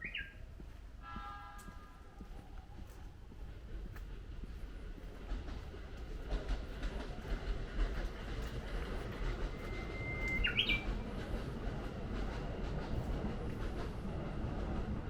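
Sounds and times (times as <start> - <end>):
electric train approaching: 0.0 - 15.0
train wheels clicking over rail joints: 2.8 - 15.0.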